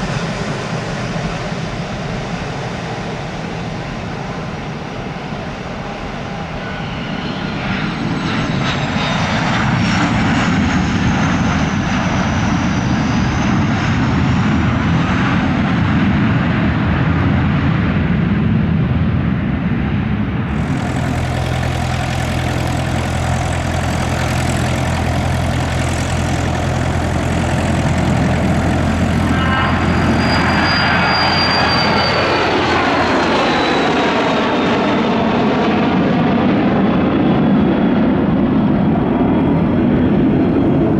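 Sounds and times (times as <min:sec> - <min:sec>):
airplane engines running: 0:00.0 - 0:40.9.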